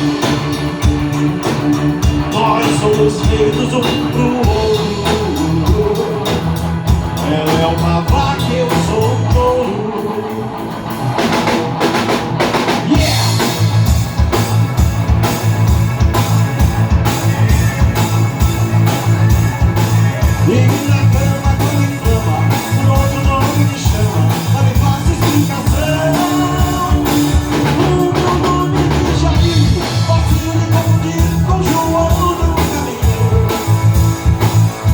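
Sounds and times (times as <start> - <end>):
drum kit beat: 0.0 - 34.9
live band playing: 0.0 - 34.9.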